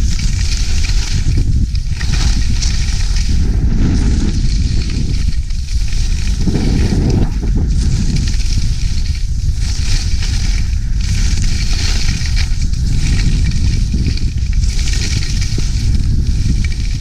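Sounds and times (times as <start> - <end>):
skis scraping on snow: 0.0 - 17.0
wind rumble on microphone: 0.0 - 17.0.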